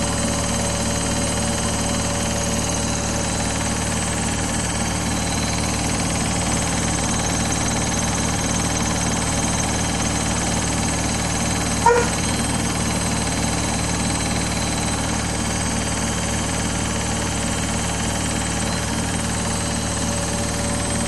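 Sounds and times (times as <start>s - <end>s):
washing machine humming: 0.0s - 21.0s.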